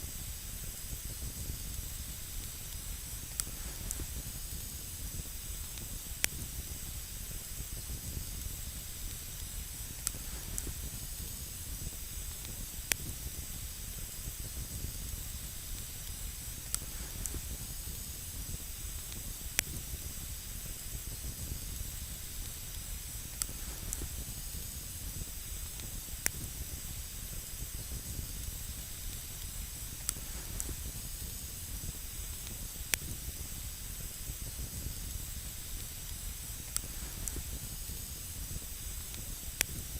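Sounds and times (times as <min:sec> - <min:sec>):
campfire burning hiss: 0:00.0 - 0:39.9
fire crackles popping: 0:00.1 - 0:39.9.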